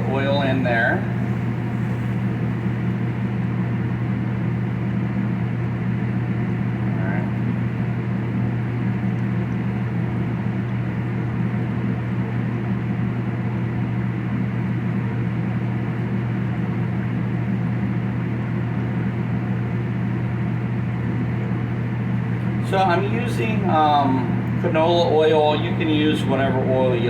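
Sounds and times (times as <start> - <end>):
kitchen machinery hum: 0.0 - 27.0.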